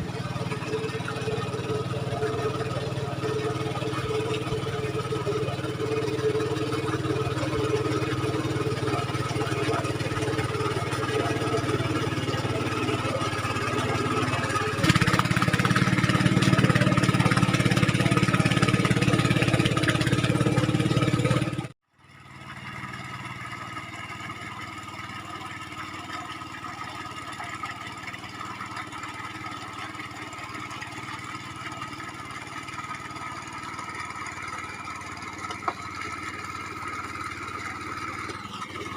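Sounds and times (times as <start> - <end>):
quieter steady engine: 0.0 - 38.9
tractor engine running: 0.0 - 38.9.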